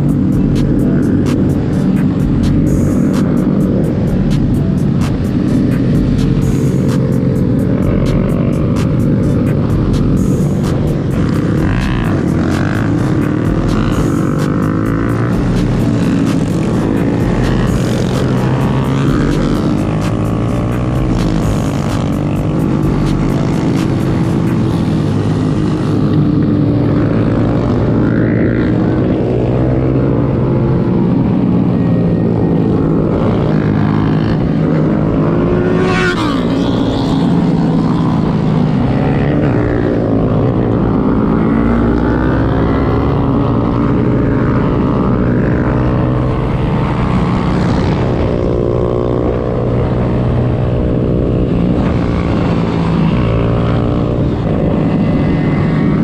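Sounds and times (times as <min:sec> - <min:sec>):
motorcycle engines revving: 0:00.0 - 0:56.0
wind noise: 0:00.0 - 0:56.0.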